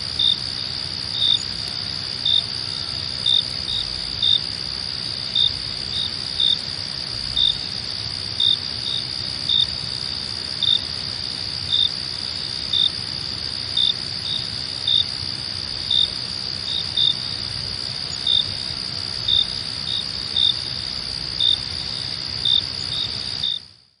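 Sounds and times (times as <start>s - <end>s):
crickets trilling: 0.0s - 24.0s
loud cricket chirps: 0.0s - 24.0s.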